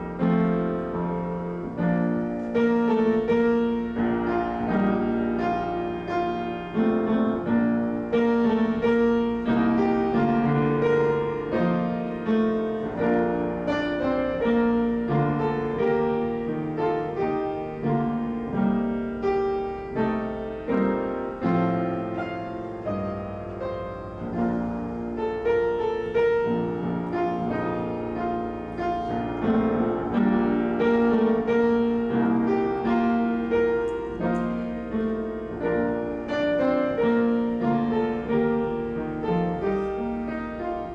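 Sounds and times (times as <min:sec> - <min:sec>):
piano music: 0:00.0 - 0:40.9.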